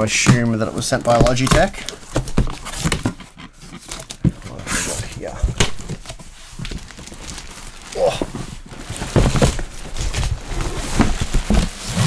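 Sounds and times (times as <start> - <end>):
cardboard rustling: 0.0 - 12.0
cardboard box being handled: 0.7 - 12.0.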